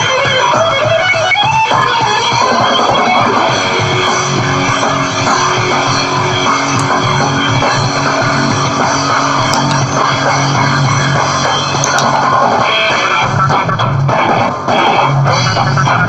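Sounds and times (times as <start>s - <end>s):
distorted electric guitar rock music: 0.0s - 16.0s.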